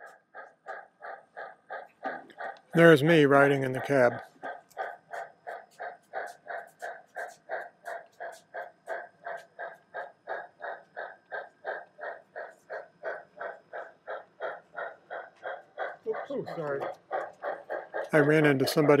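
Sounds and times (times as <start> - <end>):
model steam locomotive chuffs: 0.0 - 19.0.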